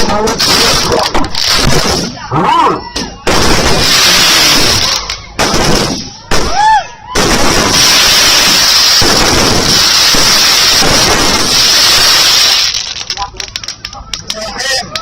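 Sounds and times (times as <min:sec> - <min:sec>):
fireworks bangs and crackle: 0:00.0 - 0:15.0.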